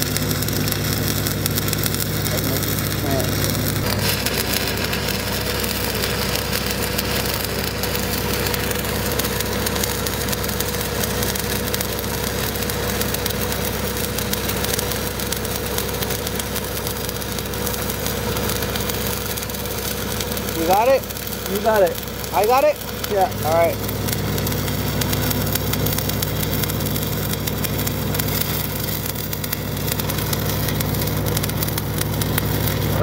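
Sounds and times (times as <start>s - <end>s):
welding arc crackling: 0.0s - 33.0s
welding machine engine humming: 0.0s - 33.0s.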